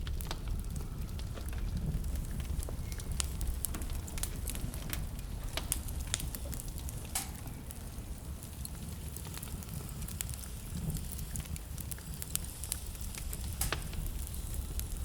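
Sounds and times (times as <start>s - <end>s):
low rumble of blizzard wind: 0.0s - 15.0s
wood fire crackling: 0.0s - 15.0s.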